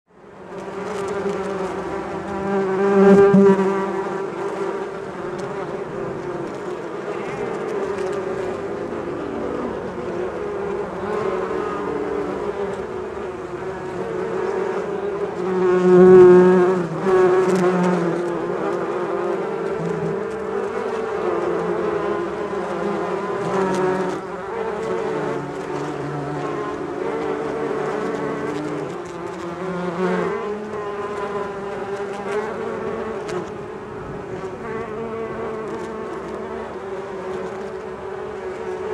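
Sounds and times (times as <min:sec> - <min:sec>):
bees buzzing: 0:00.3 - 0:38.9.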